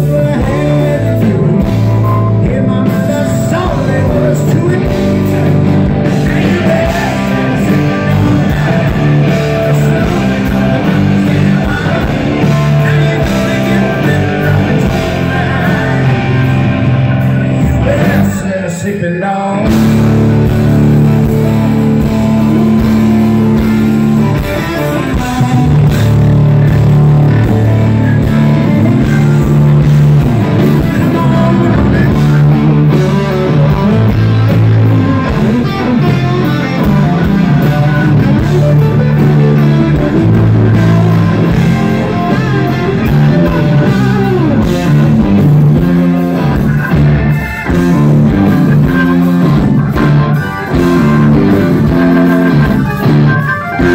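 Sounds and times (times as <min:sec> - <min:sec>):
rock band playing live: 0:00.0 - 0:53.9.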